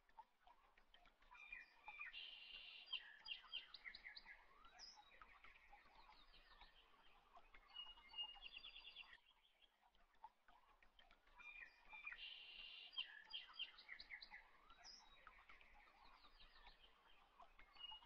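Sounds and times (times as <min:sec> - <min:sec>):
small birds chirping and trilling: 0:01.1 - 0:09.8, 0:11.0 - 0:18.0.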